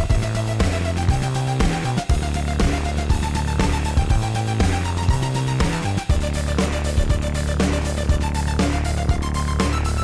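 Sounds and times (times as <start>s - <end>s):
deep bass line: 0.0s - 10.0s
electronic music with steady beat: 0.0s - 10.0s.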